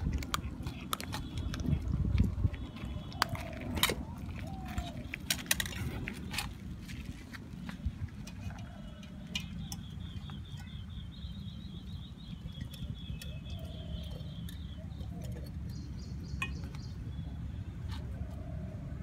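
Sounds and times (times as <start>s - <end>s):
puppies eating from steel bowl: 0.0s - 16.8s
steady low rumble: 0.0s - 19.0s.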